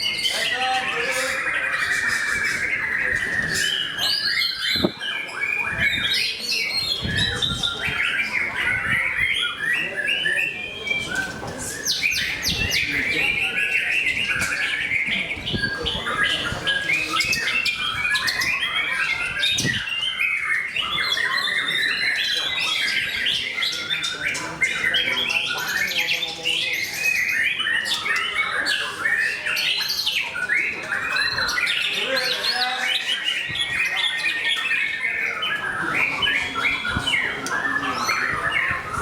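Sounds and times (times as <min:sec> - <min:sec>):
other birds calling: 0:00.0 - 0:39.0
songbird singing: 0:00.0 - 0:39.0.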